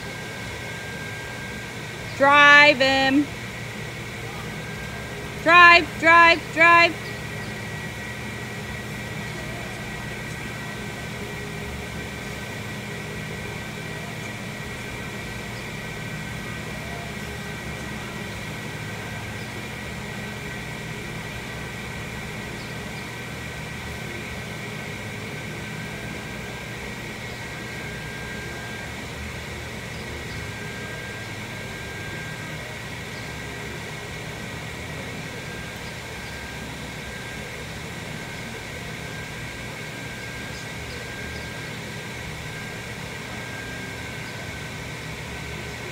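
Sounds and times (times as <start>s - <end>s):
high mechanical whine: 0.0s - 45.9s
low mechanical drone: 0.0s - 45.9s.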